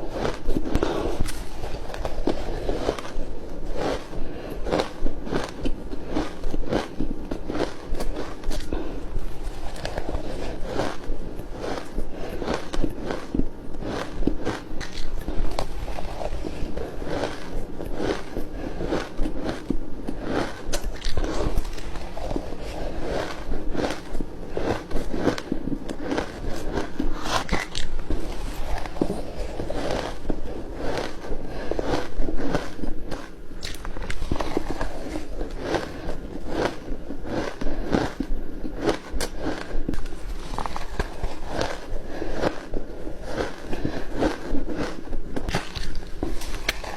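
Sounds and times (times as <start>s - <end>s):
ice being chewed crunching: 0.0s - 46.9s.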